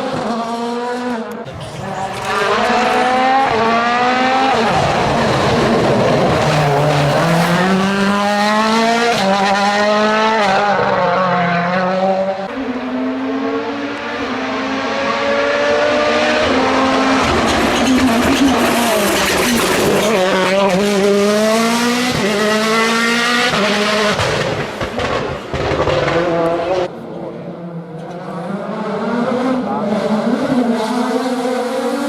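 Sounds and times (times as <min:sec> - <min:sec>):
rally car engine shifting gears: 0:00.0 - 0:32.0.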